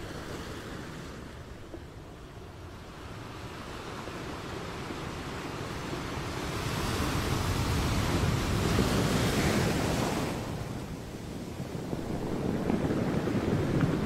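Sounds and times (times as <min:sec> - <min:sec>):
ocean wave rushing: 0:00.0 - 0:14.0.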